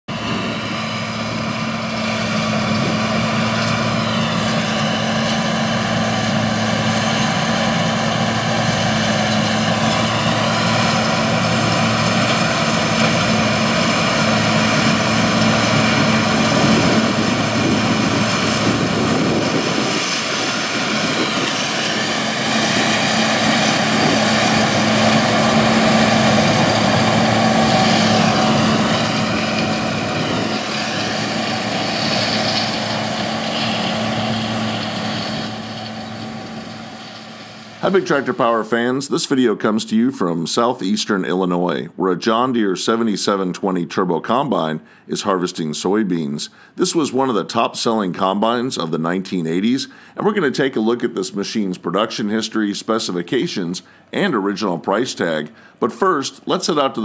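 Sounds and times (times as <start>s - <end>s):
combine harvester droning: 0.1s - 41.0s, 44.3s - 57.0s.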